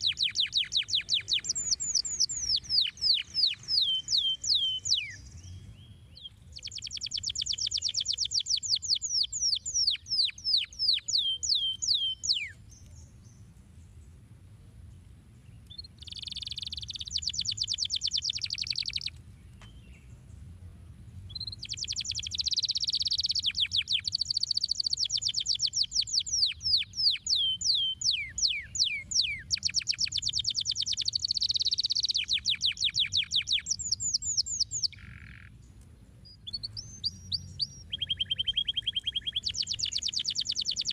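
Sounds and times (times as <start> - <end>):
canary singing trills: 0.0 - 13.4, 15.5 - 20.1, 21.3 - 35.6, 36.2 - 40.9.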